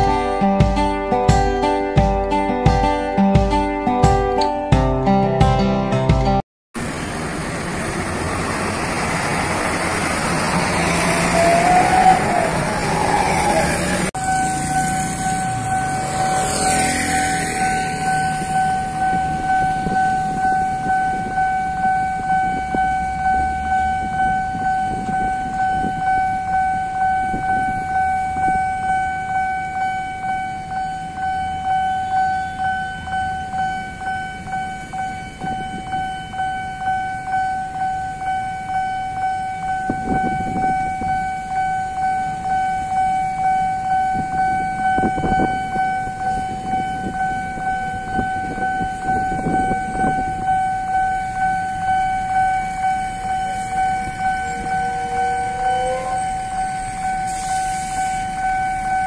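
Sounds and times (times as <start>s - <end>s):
crossing warning bell ringing: 0.0s - 4.6s, 6.8s - 59.0s
road traffic passing: 6.8s - 59.0s.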